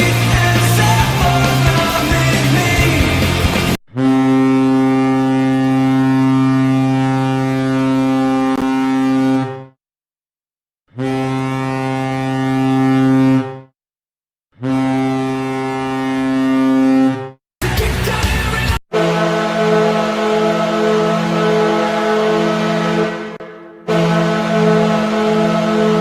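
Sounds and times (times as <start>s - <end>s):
deep goal horn blasts: 0.0s - 3.2s, 3.9s - 9.8s, 10.9s - 13.7s, 14.6s - 17.2s, 18.9s - 26.0s.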